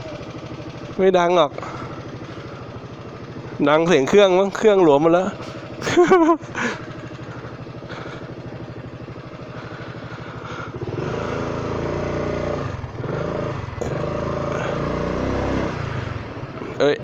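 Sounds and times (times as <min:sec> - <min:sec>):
scooter engine idling and pulling away: 0:00.0 - 0:17.0.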